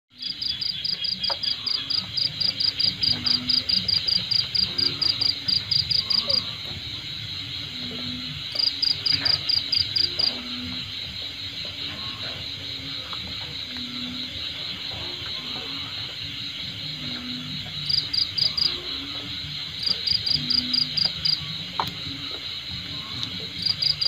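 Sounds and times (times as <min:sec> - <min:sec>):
high insect drone: 0:00.1 - 0:24.0
insects pulsing calls: 0:00.1 - 0:24.0.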